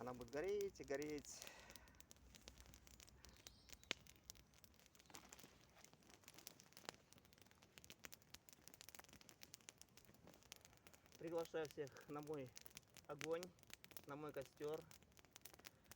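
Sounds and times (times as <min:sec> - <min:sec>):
campfire crackling: 0:00.0 - 0:15.9.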